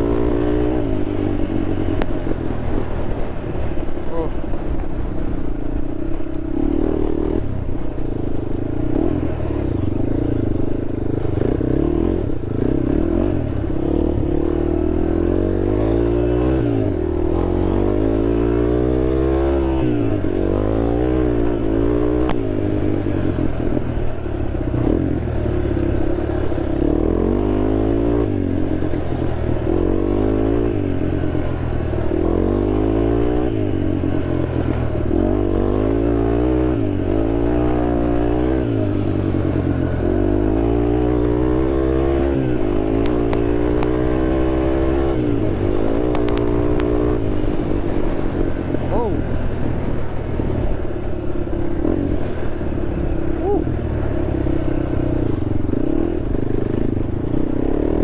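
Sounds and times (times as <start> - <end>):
quad bike engine revving: 0.0 - 2.2, 10.3 - 58.0.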